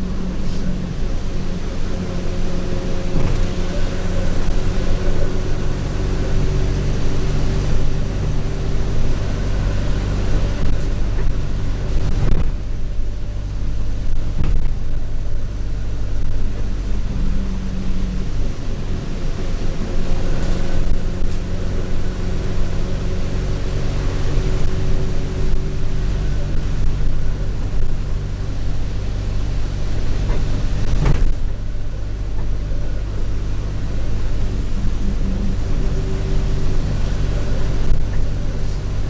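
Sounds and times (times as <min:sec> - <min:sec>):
bus engine drone: 0:00.0 - 0:39.0
high turbo whine: 0:00.0 - 0:39.0.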